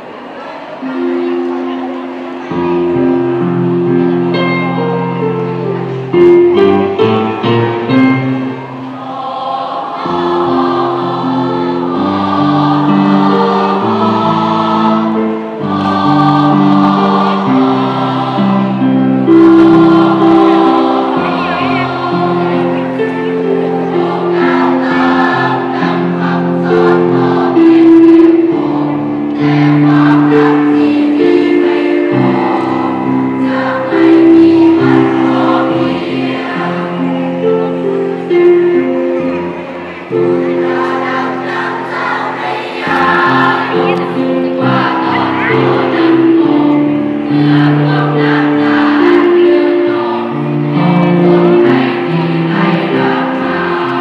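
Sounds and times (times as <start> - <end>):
choir singing in harmony: 0.0 - 54.0.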